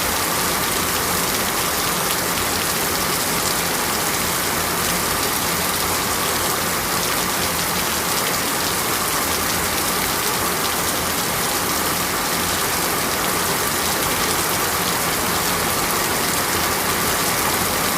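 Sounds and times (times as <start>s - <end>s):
heavy rain falling: 0.0s - 17.9s.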